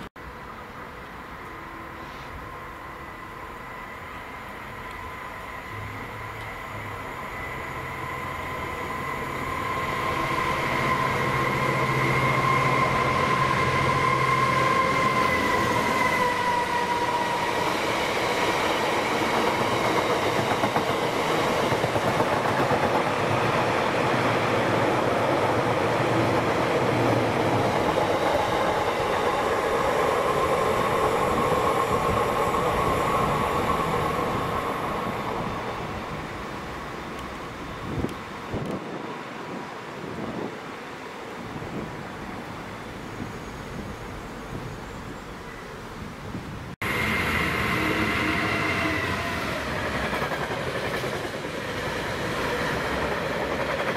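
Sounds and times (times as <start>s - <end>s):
diesel locomotive engine whine: 0.0s - 53.9s.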